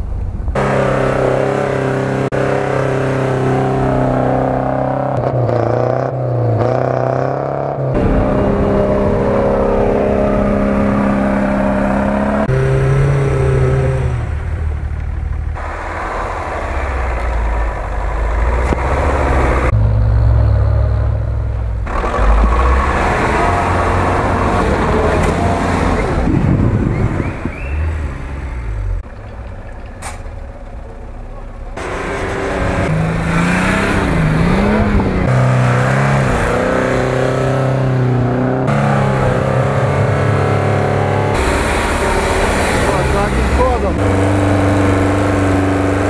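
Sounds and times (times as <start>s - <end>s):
vehicle engines revving: 0.0s - 46.0s.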